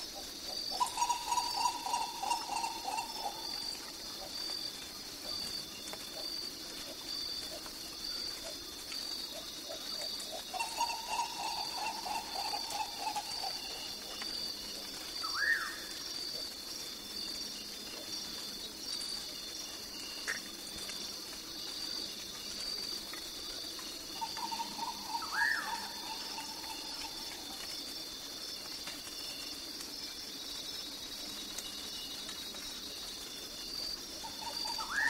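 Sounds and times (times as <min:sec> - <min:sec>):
frogs calling: 0:00.0 - 0:35.0
insects chorus: 0:00.0 - 0:35.0.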